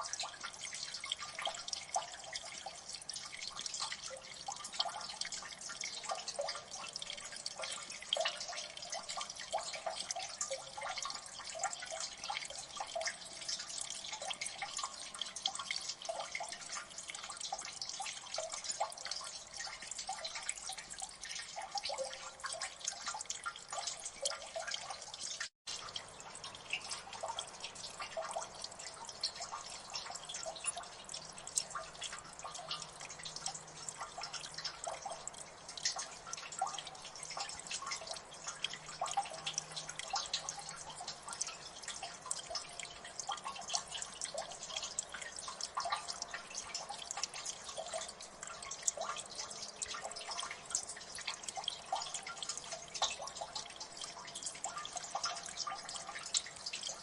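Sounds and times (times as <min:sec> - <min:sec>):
water dripping: 0:00.0 - 0:57.0.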